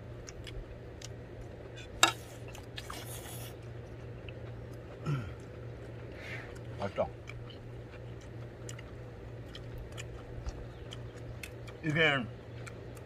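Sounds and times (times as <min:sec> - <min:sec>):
low steady hum: 0:00.0 - 0:13.0
person chewing: 0:00.0 - 0:13.0.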